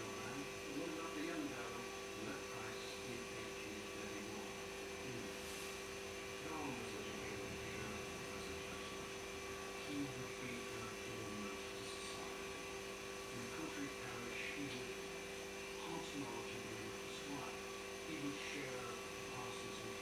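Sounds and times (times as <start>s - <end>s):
steady hum of fixed tones: 0.0s - 20.0s.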